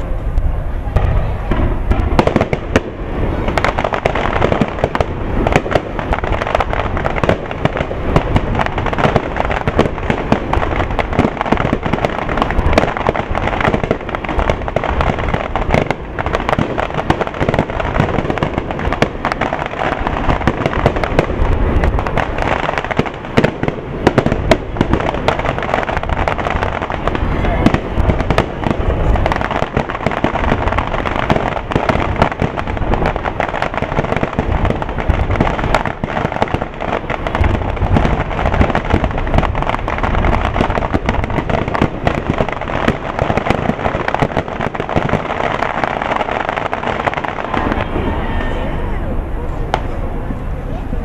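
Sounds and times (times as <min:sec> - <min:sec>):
firework bangs and pops: 0:00.0 - 0:50.4.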